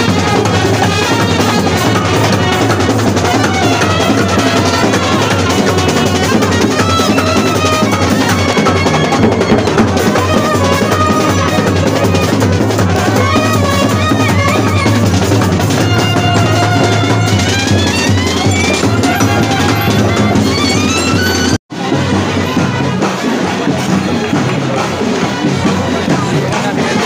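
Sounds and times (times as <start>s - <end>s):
bass drums beating: 0.0s - 27.0s
marching brass band playing: 0.0s - 27.0s
snare drums: 0.0s - 27.0s.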